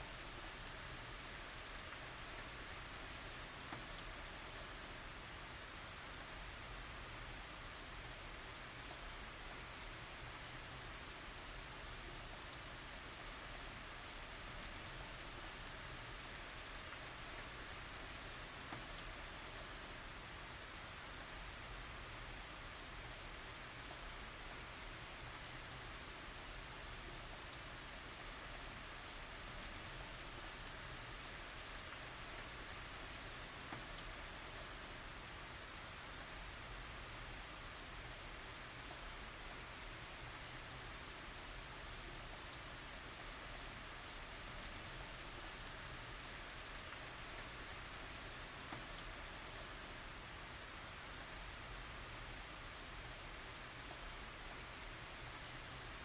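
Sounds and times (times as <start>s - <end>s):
gentle rain falling: 0.0s - 56.0s
individual raindrops: 0.0s - 56.0s.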